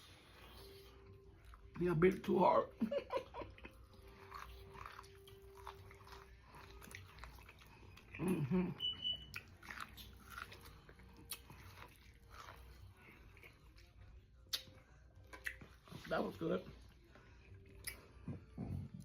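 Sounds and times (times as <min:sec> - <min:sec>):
chewing corn on the cob: 0:00.3 - 0:02.3, 0:03.4 - 0:19.0.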